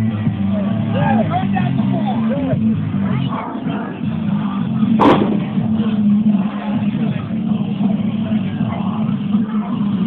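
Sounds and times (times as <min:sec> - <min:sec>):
background noise: 0:00.0 - 0:10.0.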